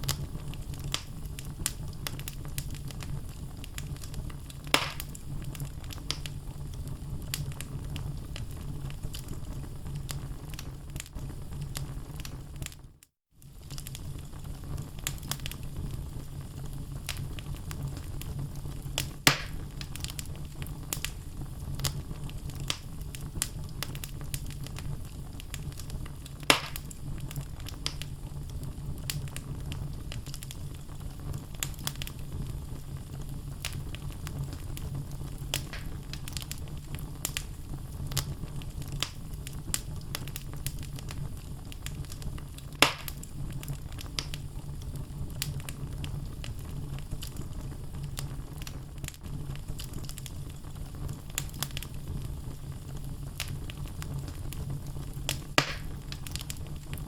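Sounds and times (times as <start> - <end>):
loud fire pops: 0.0 - 57.0
wood fire crackling: 0.0 - 57.0.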